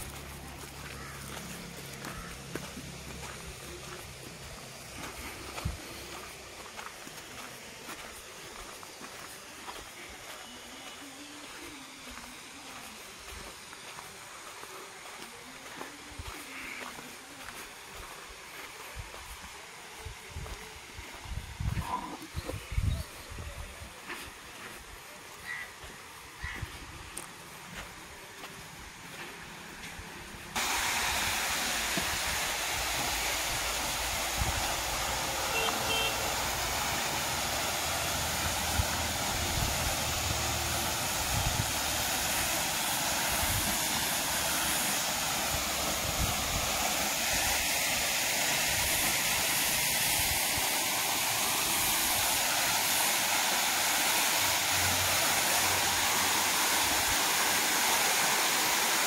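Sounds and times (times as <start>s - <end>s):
waterfall rushing: 0.0s - 18.8s, 30.5s - 59.0s.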